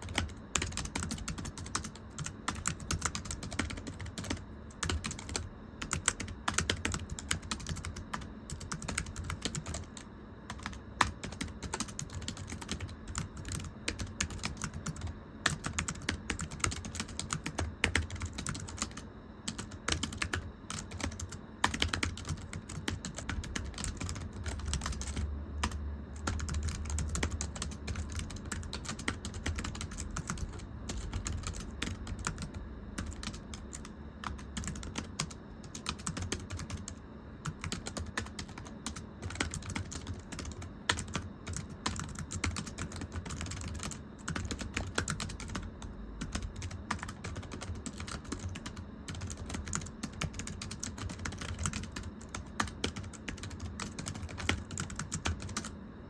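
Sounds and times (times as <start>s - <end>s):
fast typing on keyboard: 0.0s - 55.7s.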